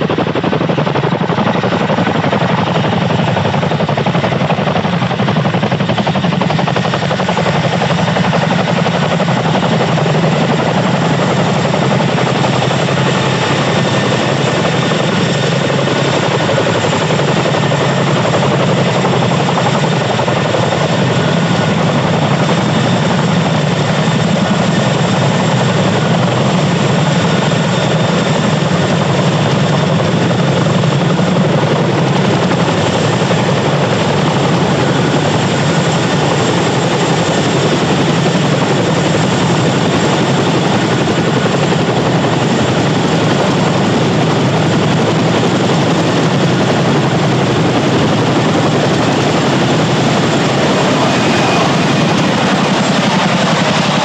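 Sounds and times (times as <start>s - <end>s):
helicopter hovering roar: 0.0s - 54.0s.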